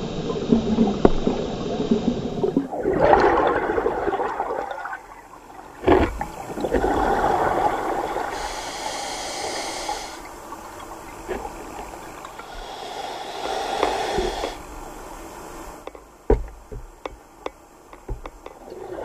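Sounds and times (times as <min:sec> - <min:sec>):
regulator bubbles gurgling underwater: 0:00.0 - 0:17.2.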